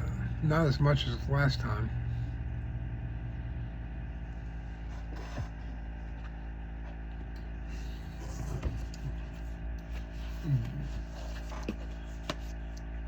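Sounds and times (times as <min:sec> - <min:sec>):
steady low background hum: 0:00.0 - 0:13.0.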